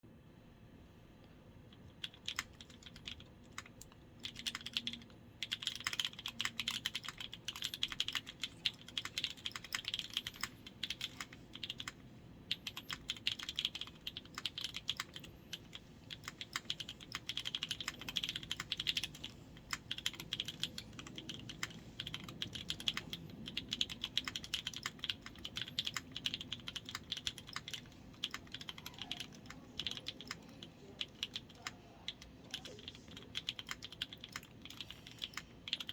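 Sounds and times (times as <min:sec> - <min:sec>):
typing on mechanical keyboard: 0:02.0 - 0:35.9.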